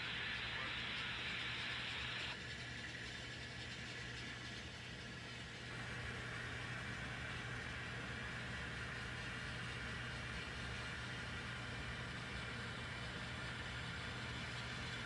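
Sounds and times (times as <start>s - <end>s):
model train running hum: 0.0s - 15.0s.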